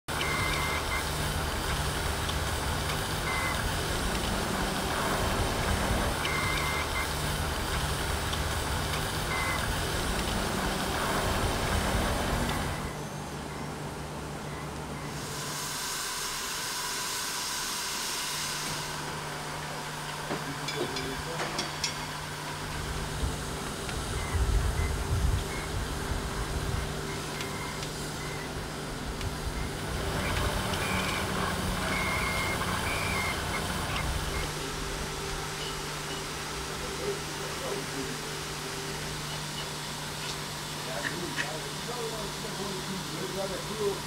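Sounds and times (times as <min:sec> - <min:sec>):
steam hissing: 0:00.1 - 0:13.5, 0:15.0 - 0:44.0.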